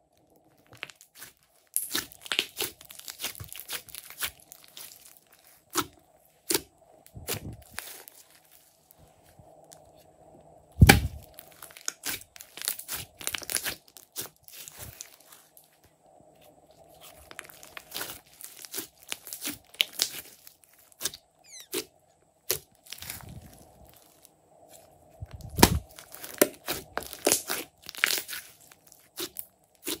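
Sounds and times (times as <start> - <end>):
slime squelching and popping: 0.5 - 8.6, 10.8 - 15.4, 17.0 - 24.1, 25.3 - 30.0.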